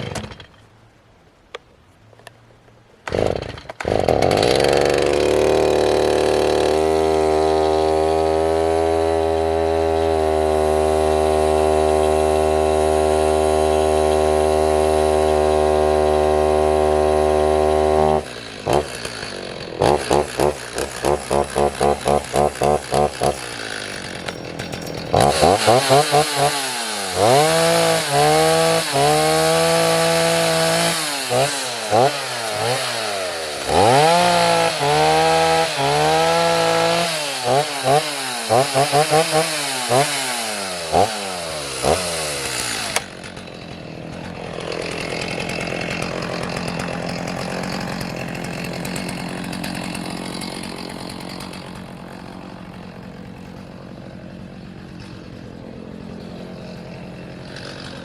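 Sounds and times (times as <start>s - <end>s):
chainsaw revving: 0.0s - 0.5s, 3.0s - 58.0s.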